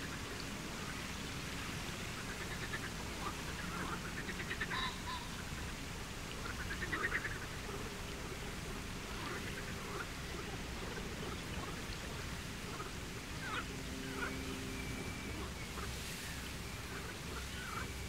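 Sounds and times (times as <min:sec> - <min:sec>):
water birds calling: 0:00.0 - 0:18.0.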